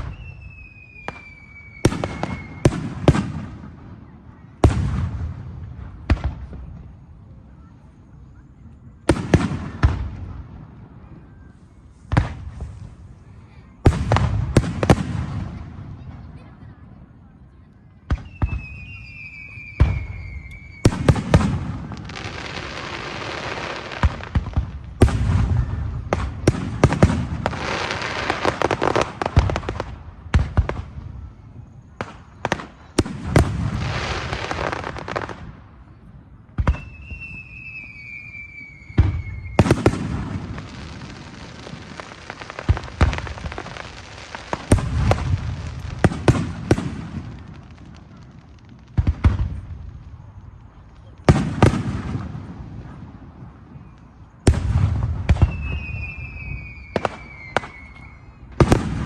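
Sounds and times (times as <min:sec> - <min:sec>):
fireworks bangs: 0:00.0 - 0:08.0, 0:08.6 - 0:59.0
fireworks whistling: 0:00.0 - 0:16.9, 0:18.0 - 0:59.0
fireworks crackling and hissing: 0:00.0 - 0:59.0.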